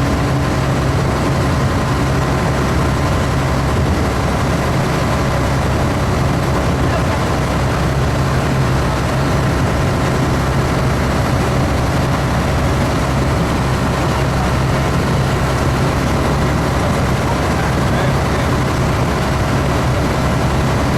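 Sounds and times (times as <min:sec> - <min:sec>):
engine humming steadily: 0:00.0 - 0:20.9.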